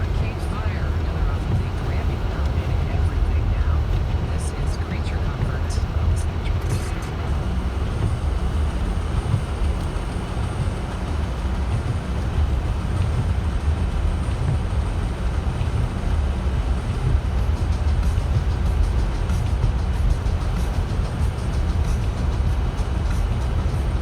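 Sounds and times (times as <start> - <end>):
car road rumble from inside: 0.0 - 24.0.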